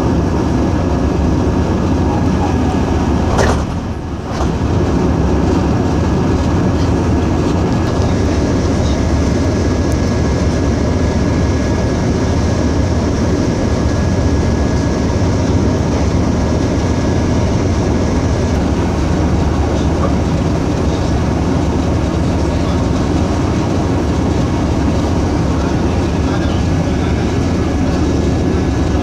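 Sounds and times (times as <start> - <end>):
moving train rumble inside carriage: 0.0 - 29.0.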